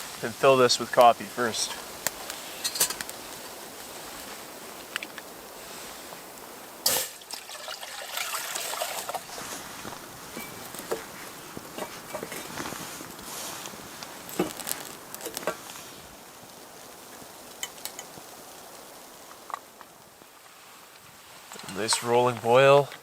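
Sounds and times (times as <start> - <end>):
water boiling in pot: 0.0 - 23.0.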